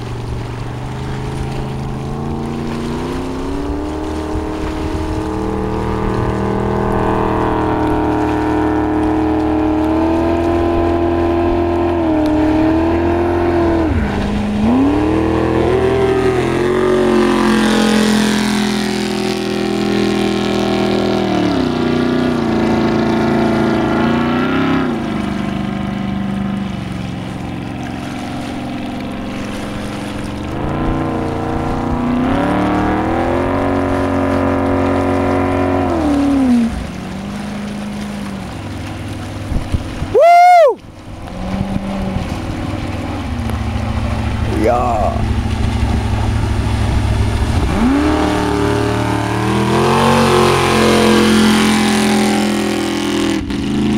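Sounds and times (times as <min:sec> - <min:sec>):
motorboat engine running: 0:00.0 - 0:53.9.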